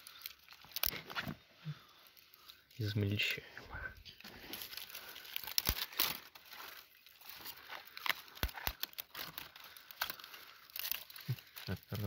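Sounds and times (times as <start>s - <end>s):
twigs snapping: 0.0s - 2.8s, 4.2s - 12.0s
dry twigs crackling: 0.0s - 12.0s.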